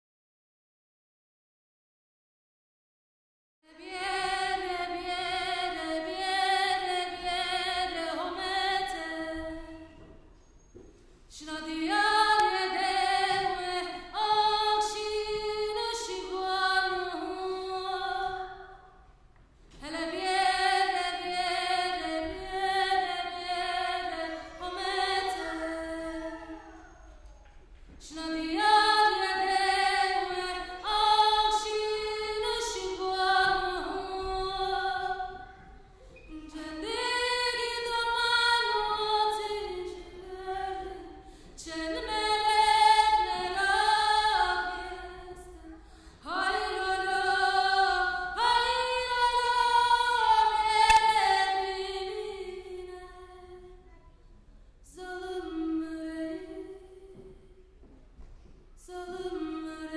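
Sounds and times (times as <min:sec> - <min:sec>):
woman singing unaccompanied: 0:03.6 - 0:10.0, 0:11.3 - 0:18.9, 0:19.8 - 0:26.8, 0:28.0 - 0:35.6, 0:36.3 - 0:53.8, 0:54.9 - 0:57.4, 0:58.8 - 0:59.9.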